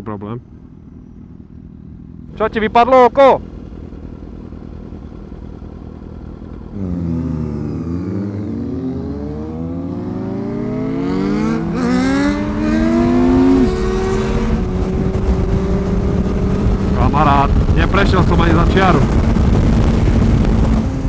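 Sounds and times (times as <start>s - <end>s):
motorcycles accelerating: 0.5s - 21.0s.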